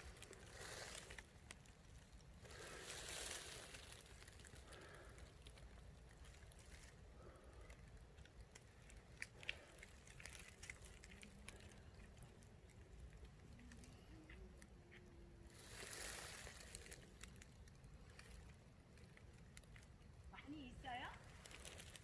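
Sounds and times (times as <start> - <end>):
soft rustle: 0.0 - 22.0.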